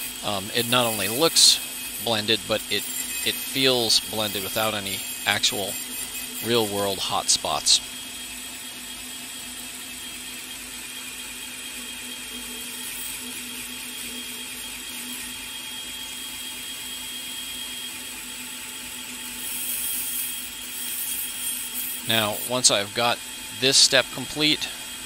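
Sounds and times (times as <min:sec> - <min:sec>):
belt grinder grinding knife: 0:00.0 - 0:25.0.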